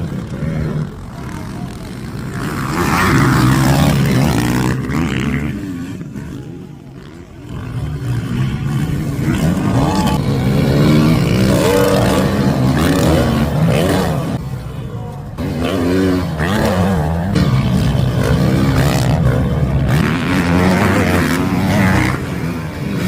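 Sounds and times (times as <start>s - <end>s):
motocross engines revving: 0.0s - 23.0s.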